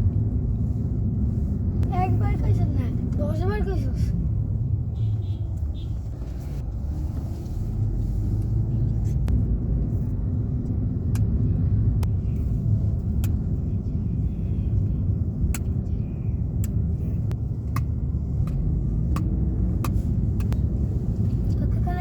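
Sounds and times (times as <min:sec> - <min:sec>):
vehicle rumble from on board: 0:00.0 - 0:22.0.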